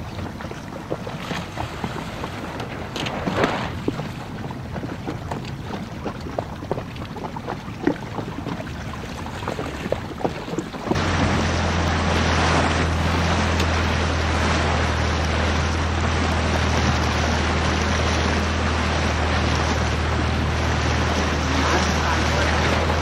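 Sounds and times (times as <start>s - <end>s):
motorboat engine humming: 0.0s - 23.0s
water rushing past hull: 0.0s - 23.0s.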